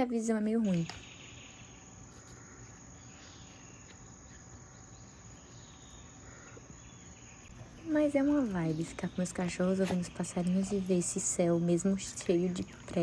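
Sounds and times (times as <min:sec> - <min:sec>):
crickets trilling: 0:00.0 - 0:13.0
faint bird chirps: 0:00.5 - 0:11.1.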